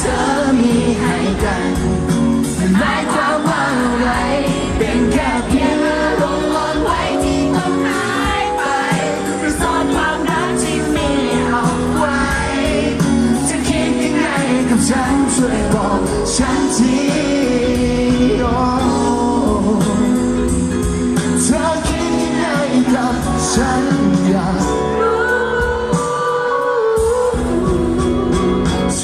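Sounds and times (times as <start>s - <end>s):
drums and cymbals: 0.0s - 29.0s
live pop band playing: 0.0s - 29.0s.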